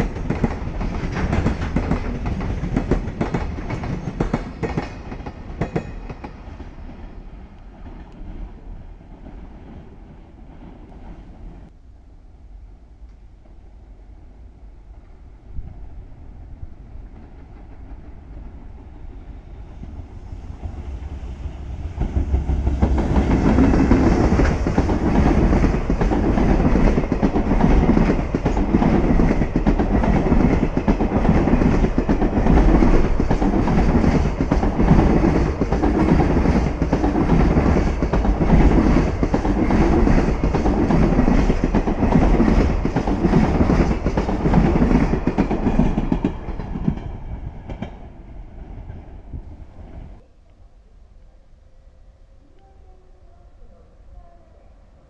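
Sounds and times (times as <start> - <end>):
freight train wheels rumbling on rail: 0.0 - 11.8, 14.9 - 50.2.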